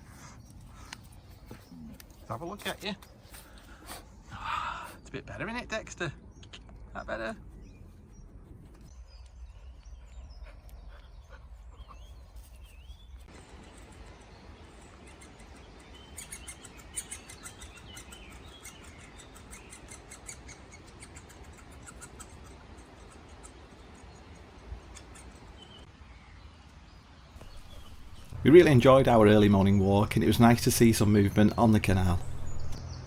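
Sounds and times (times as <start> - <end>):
birds chirping and singing: 0.0 - 33.0.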